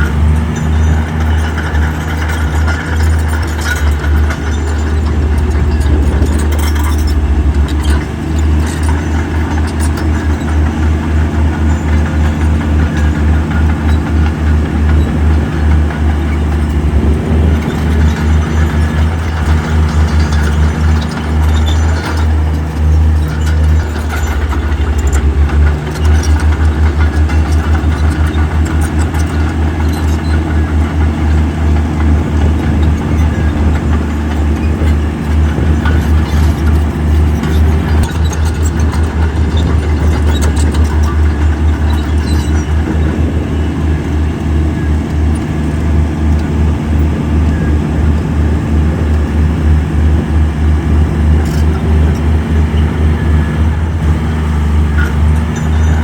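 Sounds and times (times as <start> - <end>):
heavy diesel engine running: 0.0 - 56.0
light clanks and rattles: 0.0 - 56.0.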